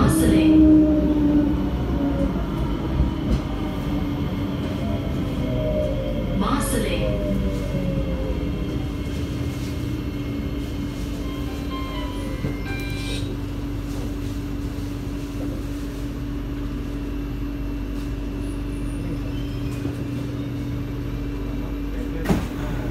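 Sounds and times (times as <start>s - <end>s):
train car hum: 0.0s - 22.9s.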